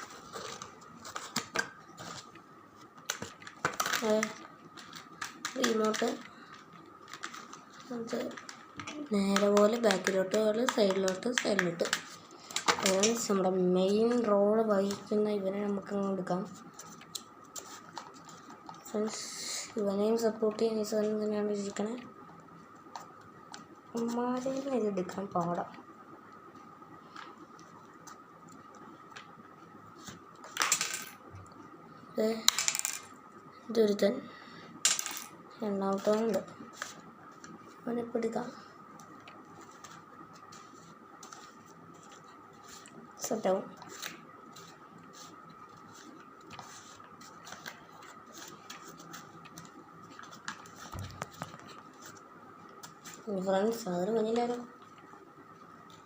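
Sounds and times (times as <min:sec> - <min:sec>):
faint steady high hum: 0:00.0 - 0:56.0.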